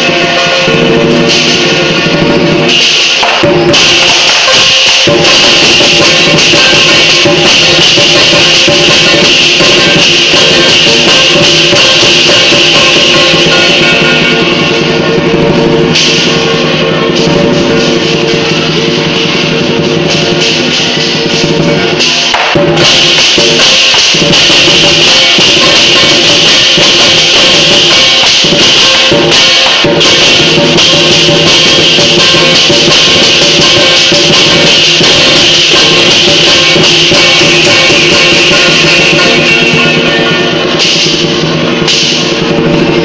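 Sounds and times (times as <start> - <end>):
cymbals clashing: 0.0 - 43.0
drum beating: 0.0 - 43.0.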